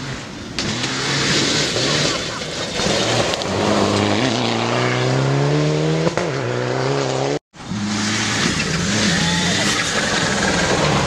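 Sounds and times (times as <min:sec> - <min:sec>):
rally car engine accelerating: 0:00.0 - 0:11.0
second rally car engine: 0:00.0 - 0:11.0.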